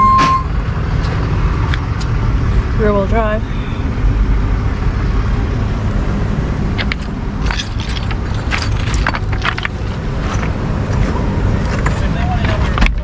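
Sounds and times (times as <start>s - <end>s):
tow truck engine running: 0.0s - 13.0s.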